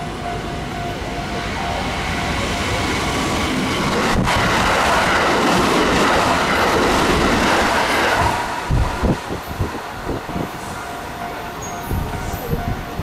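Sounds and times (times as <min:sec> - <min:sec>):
electric train running: 0:00.0 - 0:13.0.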